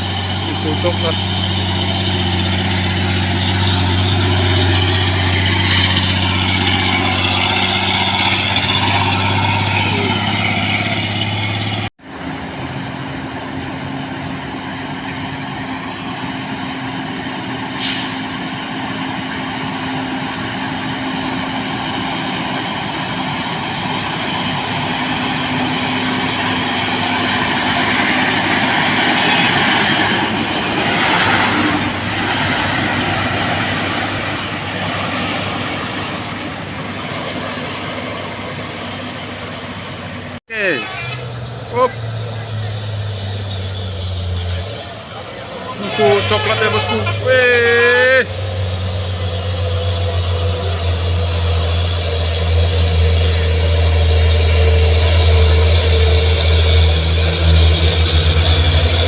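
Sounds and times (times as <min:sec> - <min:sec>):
diesel truck engines droning: 0:00.0 - 0:59.0
higher engine note: 0:00.0 - 0:59.0.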